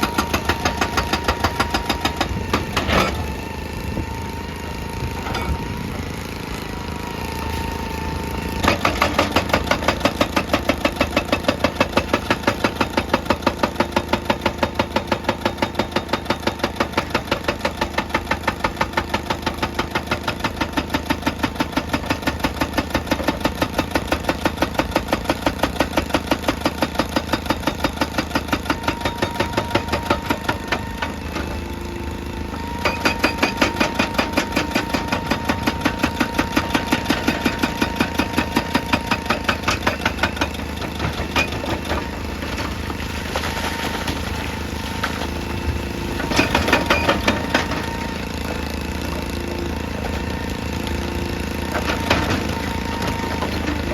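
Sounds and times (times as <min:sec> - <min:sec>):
hydraulic breaker hammering rock: 0:00.0 - 0:04.2, 0:08.5 - 0:53.9
diesel engine running: 0:00.0 - 0:24.2, 0:24.8 - 0:53.9.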